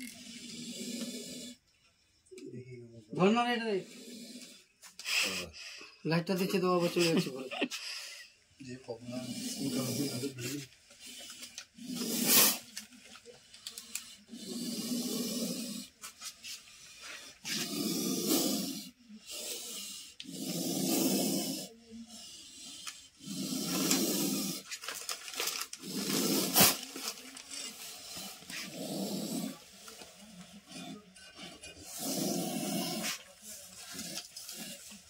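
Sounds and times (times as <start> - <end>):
cobra hissing: 0.0 - 1.6, 3.2 - 6.0, 9.0 - 12.9, 13.6 - 35.0.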